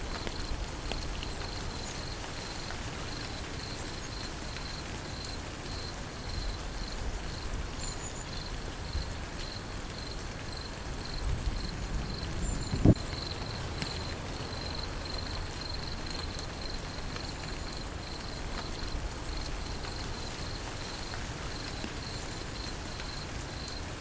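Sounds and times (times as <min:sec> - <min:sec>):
steady rain falling: 0:00.0 - 0:24.0
insect chirping: 0:01.2 - 0:23.8.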